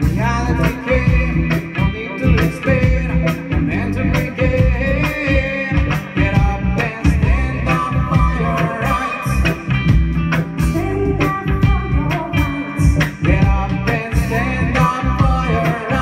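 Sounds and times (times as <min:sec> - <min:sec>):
drum kit: 0:00.0 - 0:16.0
electric bass: 0:00.0 - 0:16.0
electric guitar: 0:00.0 - 0:16.0
woman singing lead vocal: 0:00.0 - 0:16.0.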